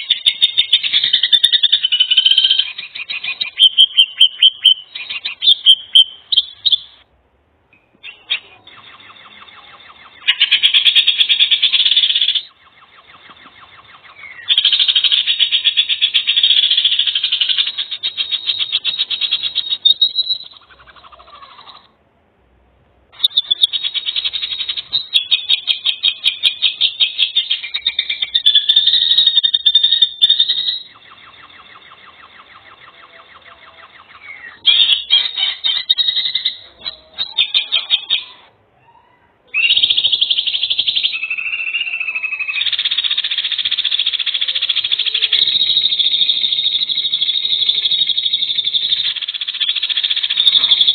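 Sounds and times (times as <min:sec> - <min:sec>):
birds calling in buzzy trills: 0:00.0 - 0:07.1, 0:08.0 - 0:22.0, 0:23.1 - 0:50.9.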